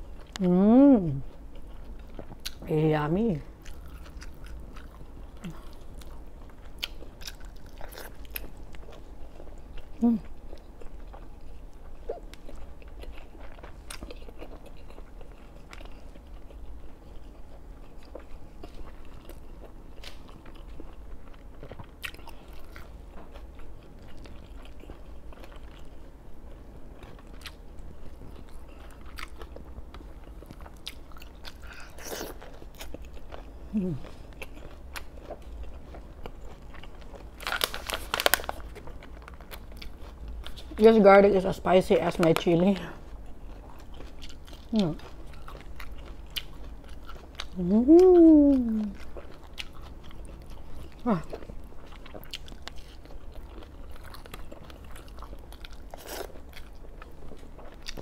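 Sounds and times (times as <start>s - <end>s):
wet chewing with clicks: 0.1s - 3.0s, 3.6s - 40.9s, 41.9s - 58.0s.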